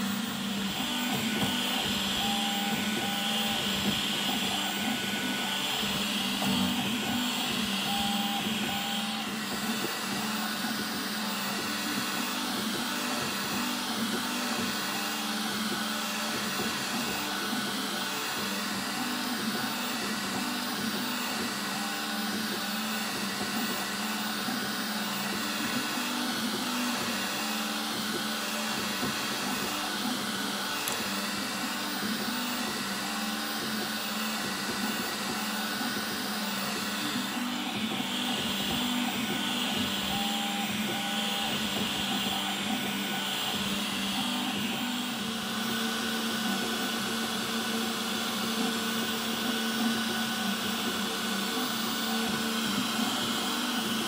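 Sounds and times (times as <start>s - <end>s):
fan whirring: 0.0s - 46.9s
stepper motors whining: 0.0s - 54.0s.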